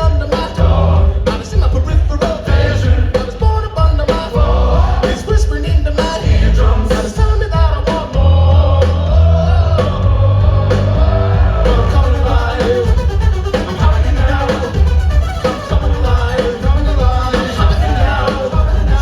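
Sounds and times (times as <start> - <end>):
driving drum beat: 0.0 - 19.0
heavy bass: 0.0 - 19.0
lead vocal singing: 0.0 - 19.0
rock band playing loudly: 0.0 - 19.0.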